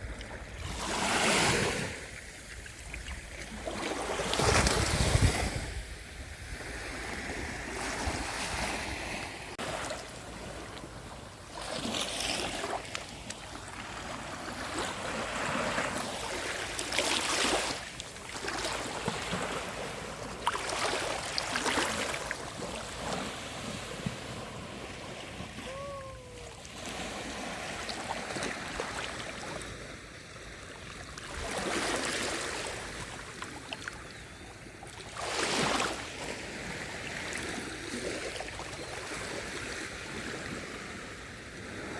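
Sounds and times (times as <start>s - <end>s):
sea waves washing onto beach: 0.0s - 41.9s.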